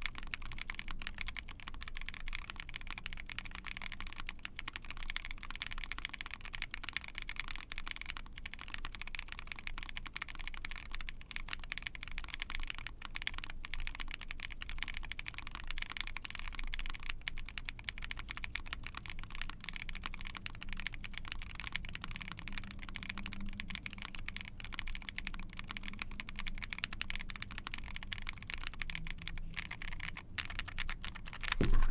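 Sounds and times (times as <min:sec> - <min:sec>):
fast typing on mechanical keyboard: 0:00.0 - 0:31.9.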